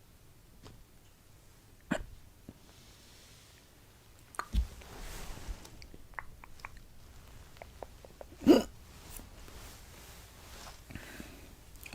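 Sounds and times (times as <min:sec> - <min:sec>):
faint soft rustling: 0:00.4 - 0:11.9.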